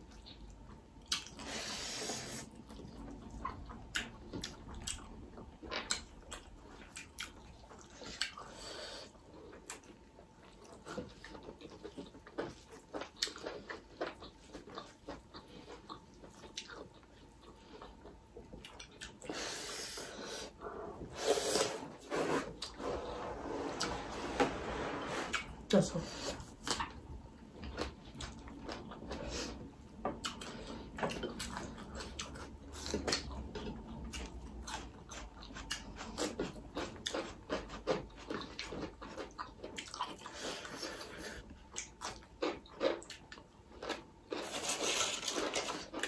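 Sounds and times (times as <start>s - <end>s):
people chewing and smacking: 0.0s - 24.1s, 25.2s - 46.0s.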